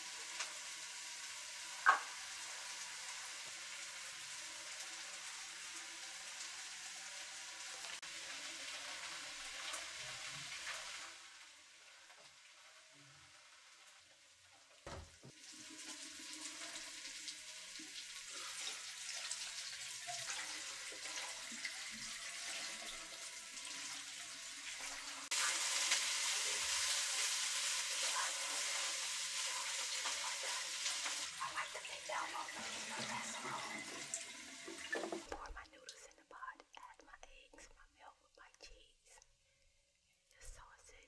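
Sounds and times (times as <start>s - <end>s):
water running through colander: 0.0s - 36.0s.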